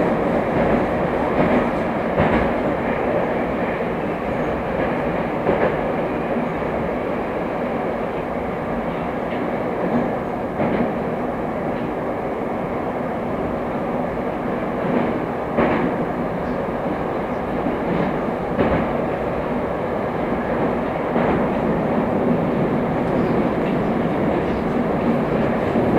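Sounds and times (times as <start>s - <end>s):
train rumbling through tunnel: 0.0s - 25.9s.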